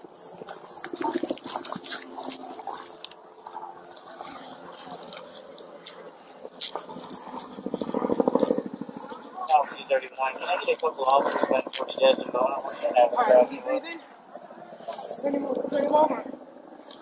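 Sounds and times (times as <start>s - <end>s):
camera rubbing against clothing: 0.0s - 17.0s.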